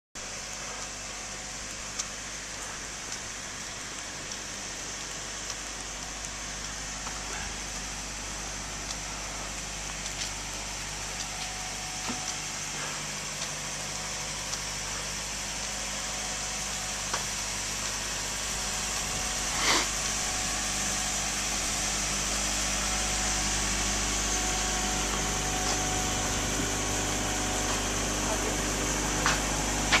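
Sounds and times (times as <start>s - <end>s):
engine idling: 0.3s - 30.0s.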